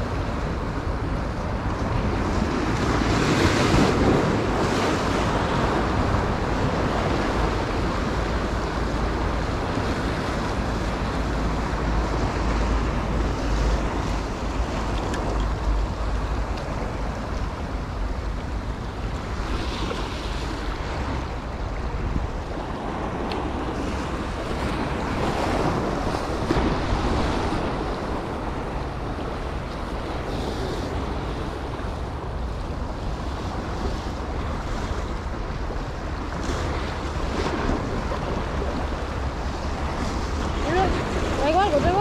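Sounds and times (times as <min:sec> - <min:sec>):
surf washing over rocks: 0:00.0 - 0:42.0.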